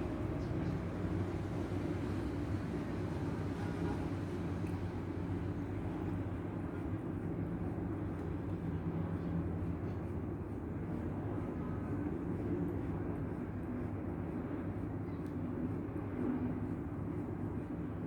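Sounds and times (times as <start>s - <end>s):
low mechanical hum and rumble: 0.0s - 18.0s.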